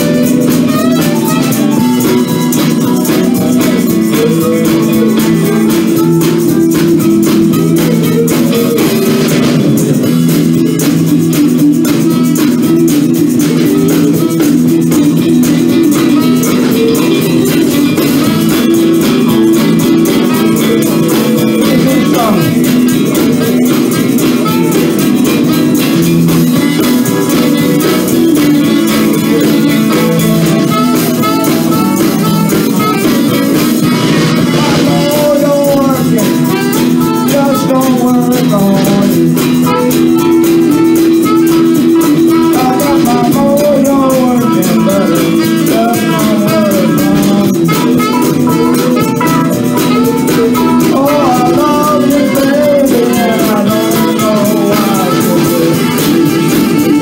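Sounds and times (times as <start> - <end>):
blues band playing: 0.0 - 57.0.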